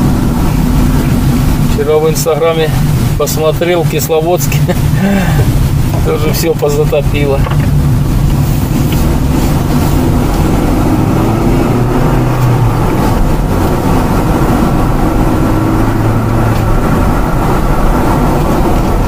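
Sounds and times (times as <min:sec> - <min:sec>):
car engine hum: 0:00.0 - 0:19.0
tyre and road noise: 0:00.0 - 0:19.0.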